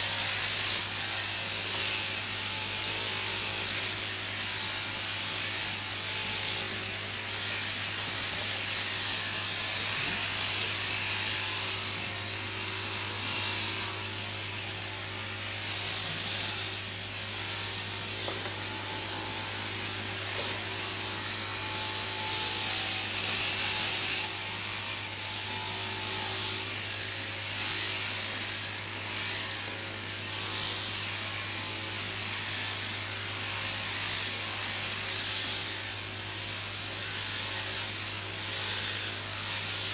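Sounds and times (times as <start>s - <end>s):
electric shears buzzing: 0.0s - 39.9s
hiss of shears cutting wool: 0.0s - 39.9s.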